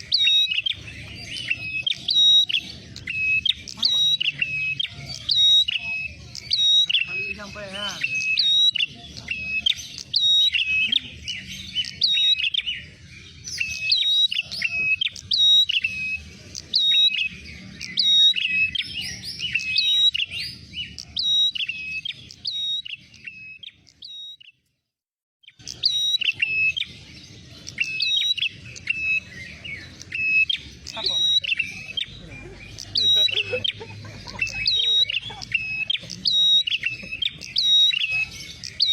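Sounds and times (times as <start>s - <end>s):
bird rapid sharp chirps: 0.0s - 24.6s, 25.4s - 38.9s.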